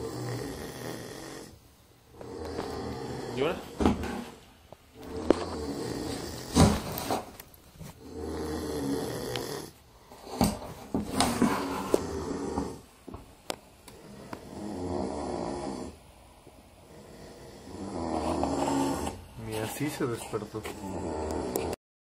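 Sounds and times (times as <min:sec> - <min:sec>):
animal snoring deeply: 0:00.0 - 0:04.4, 0:05.0 - 0:12.9, 0:13.9 - 0:16.1, 0:16.7 - 0:19.3, 0:20.0 - 0:21.8.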